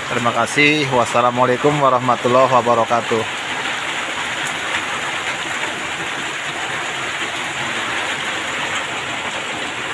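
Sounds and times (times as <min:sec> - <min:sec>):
heavy rain pouring: 0:00.0 - 0:09.9.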